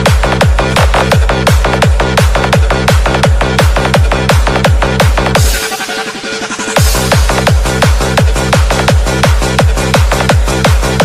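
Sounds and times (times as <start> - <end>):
hard fast kick drum: 0.0 - 5.8, 6.6 - 11.0
steady bass line: 0.0 - 11.0.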